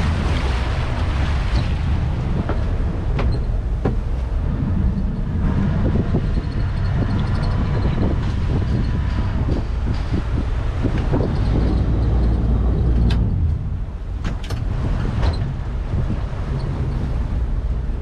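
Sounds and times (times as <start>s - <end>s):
boat engine rumble: 0.0s - 18.0s
water rushing along hull: 0.0s - 18.0s.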